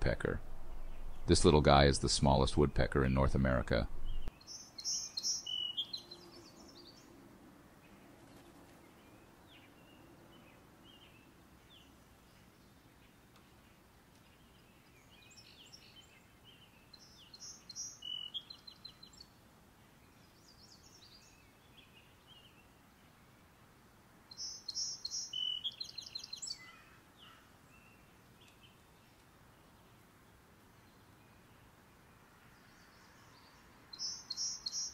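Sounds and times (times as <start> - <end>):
songbird chirping and trilling: 0.2 - 7.2, 7.8 - 23.2, 24.3 - 30.1, 30.7 - 34.9.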